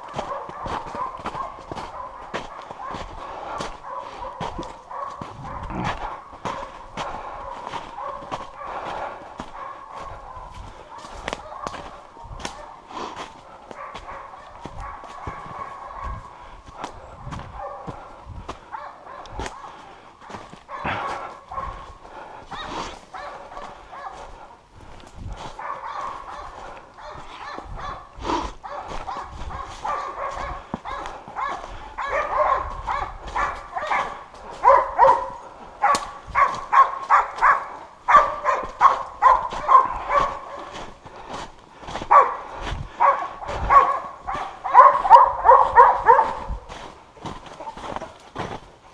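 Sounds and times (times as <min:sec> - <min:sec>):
dogs barking: 0:00.0 - 0:48.9.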